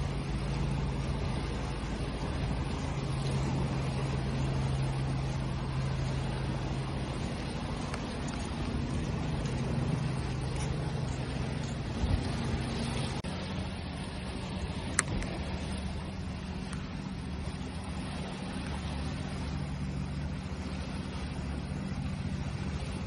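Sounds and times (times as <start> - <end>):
low motor hum: 0.0 - 23.0
waves washing: 0.0 - 23.0.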